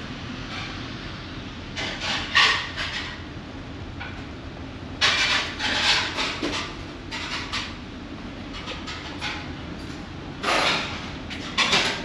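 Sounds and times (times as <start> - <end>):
ferry engines droning: 0.0 - 12.0.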